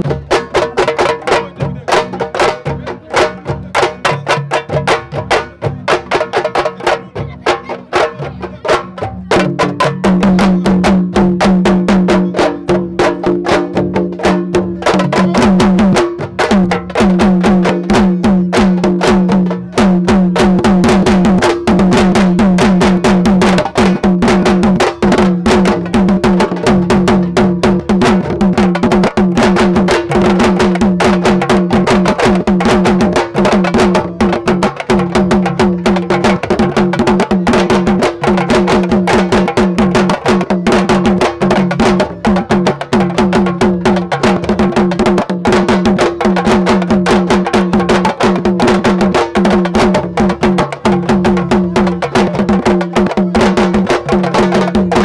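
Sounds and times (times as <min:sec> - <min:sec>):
fast dense drumming: 0:00.0 - 0:55.0.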